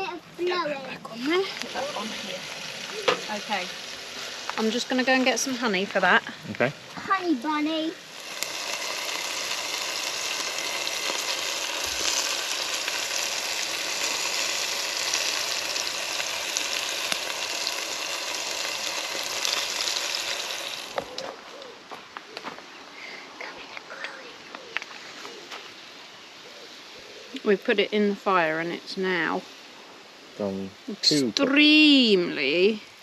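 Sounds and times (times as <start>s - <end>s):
fire crackles: 0.0s - 33.0s
food sizzling in a pot: 0.6s - 21.5s, 25.3s - 33.0s.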